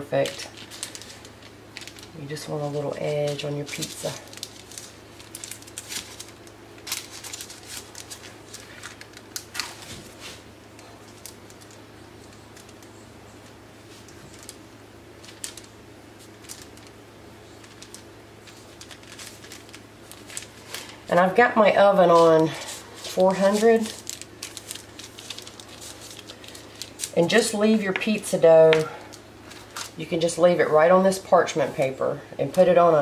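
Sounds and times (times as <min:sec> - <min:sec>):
low steady hum: 0:00.0 - 0:33.0
parchment paper rustling: 0:00.0 - 0:33.0.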